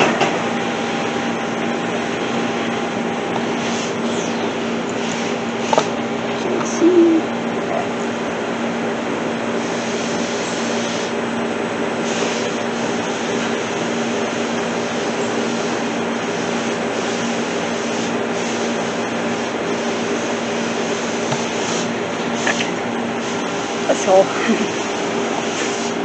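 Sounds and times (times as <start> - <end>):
mechanical drone with low hum: 0.0 - 26.0.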